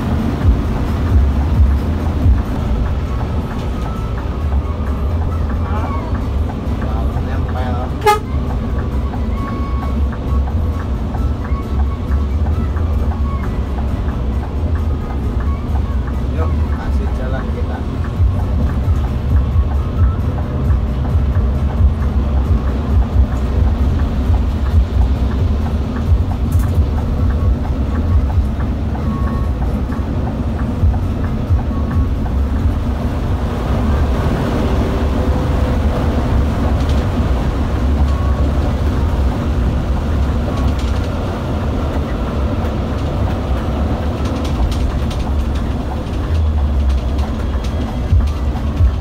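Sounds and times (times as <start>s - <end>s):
coach cabin rumble: 0.0s - 49.0s.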